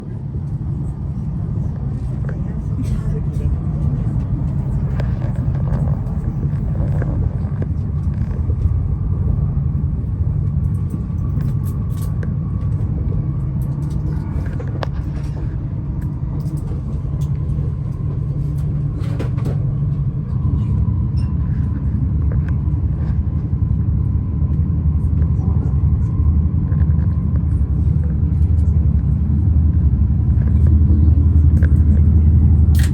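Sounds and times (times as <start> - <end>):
train rumble inside cabin: 0.0 - 32.9.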